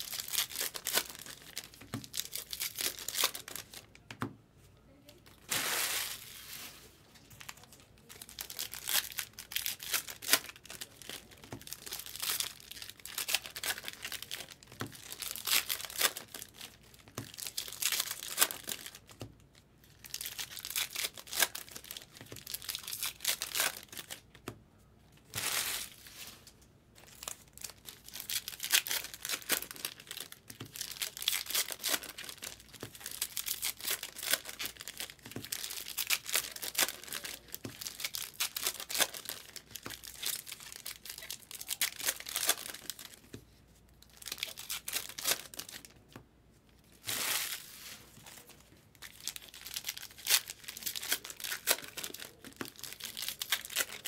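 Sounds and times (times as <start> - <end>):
wrappers tearing and crinkling: 0.0 - 4.0, 5.3 - 19.2, 19.8 - 24.2, 25.3 - 43.2, 44.0 - 46.0, 46.9 - 54.0.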